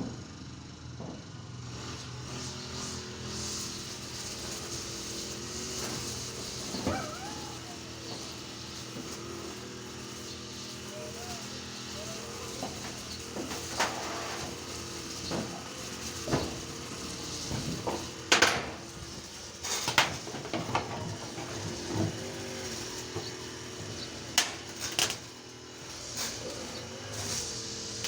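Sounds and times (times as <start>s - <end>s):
machine hum: 3.8s - 28.0s.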